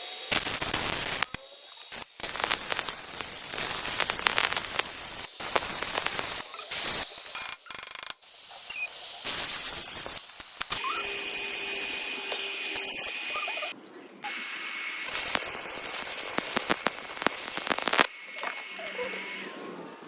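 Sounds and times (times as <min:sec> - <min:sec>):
tool crackling and clicks: 0:00.3 - 0:08.2, 0:09.2 - 0:13.6, 0:15.1 - 0:19.2.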